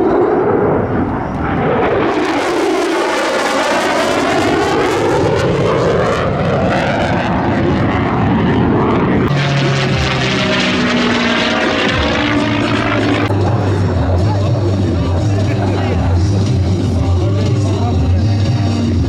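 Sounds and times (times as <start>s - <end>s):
fighter jet flying past: 0.0s - 17.7s
aircraft engine drone: 0.0s - 19.0s.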